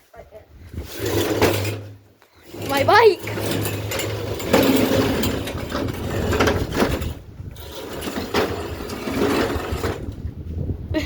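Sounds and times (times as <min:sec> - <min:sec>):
bicycle frame rattling: 0:01.0 - 0:10.3.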